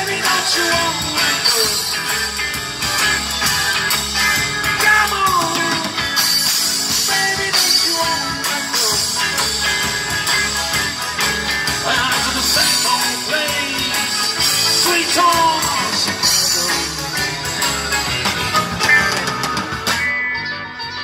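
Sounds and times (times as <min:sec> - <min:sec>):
drums: 0:00.0 - 0:21.0
electric guitars: 0:00.0 - 0:21.0.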